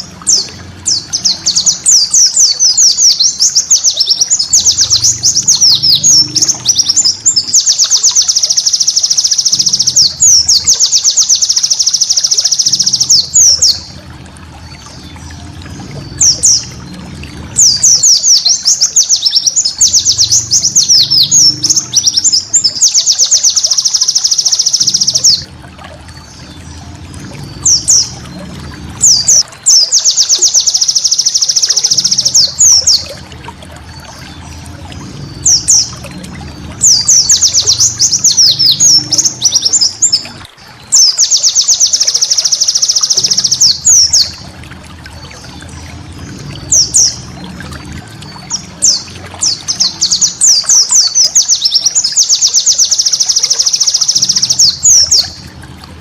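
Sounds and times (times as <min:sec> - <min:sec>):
bird chirps and trills: 0:00.0 - 0:56.0
water trickling: 0:00.0 - 0:56.0.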